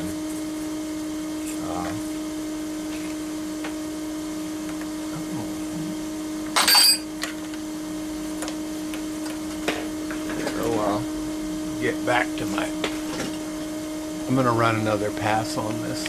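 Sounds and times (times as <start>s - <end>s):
electric motor hum: 0.0s - 16.0s.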